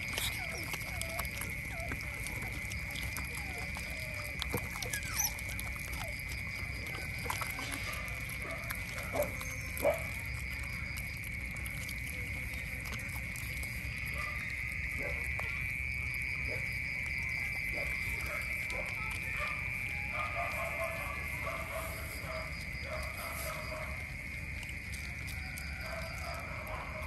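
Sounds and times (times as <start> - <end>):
otters chewing: 0.0 - 27.0.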